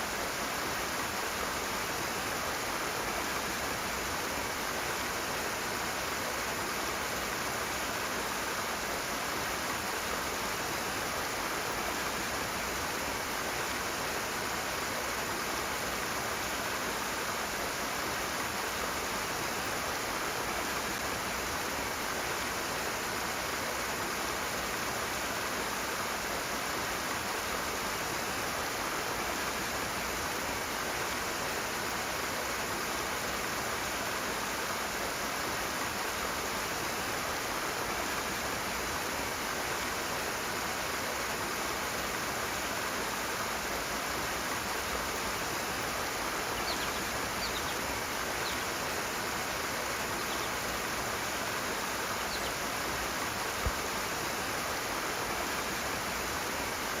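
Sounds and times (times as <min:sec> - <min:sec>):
fast-flowing stream water: 0:00.0 - 0:57.0.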